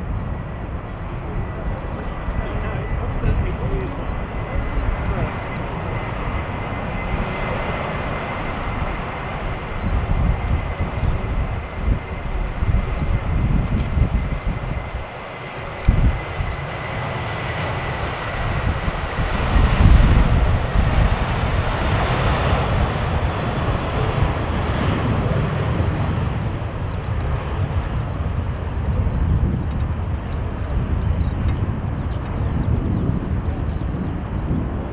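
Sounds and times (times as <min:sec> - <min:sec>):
jet engines roaring: 0:00.0 - 0:34.9.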